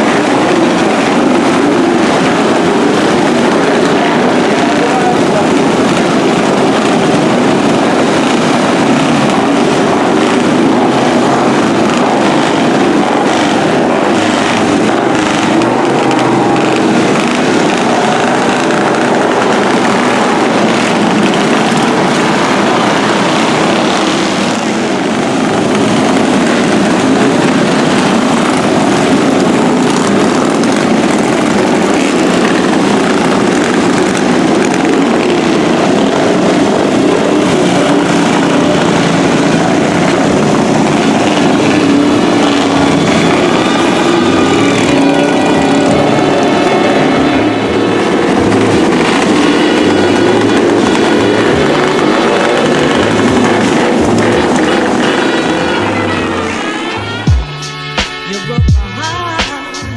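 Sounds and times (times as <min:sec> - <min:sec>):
motorcycle engines droning: 0:00.0 - 0:57.4.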